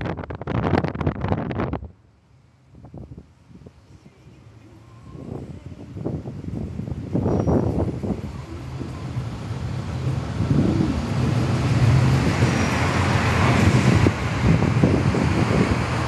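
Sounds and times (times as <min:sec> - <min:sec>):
traffic hiss: 0:02.0 - 0:16.0
car engines humming: 0:02.1 - 0:16.0.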